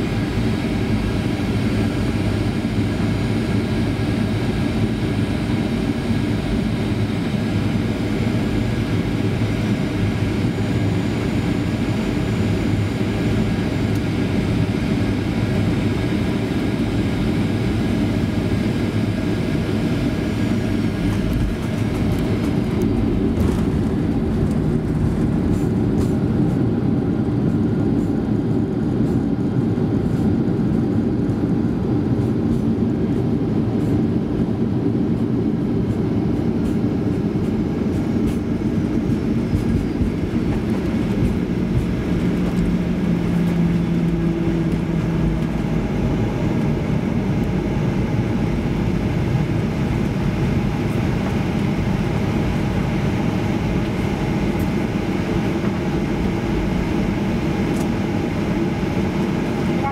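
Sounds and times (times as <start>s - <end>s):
jet engines and wheels rumbling: 0.0s - 59.9s.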